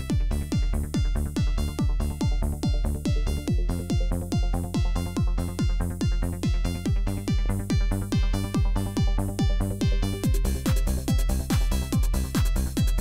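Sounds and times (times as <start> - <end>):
kick drum: 0.0 - 13.0
layered synth notes: 0.0 - 13.0.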